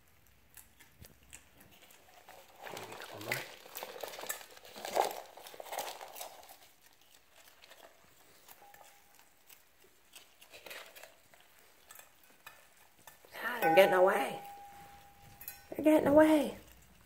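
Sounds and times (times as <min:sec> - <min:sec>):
rustling and light clicking: 0:00.0 - 0:17.0.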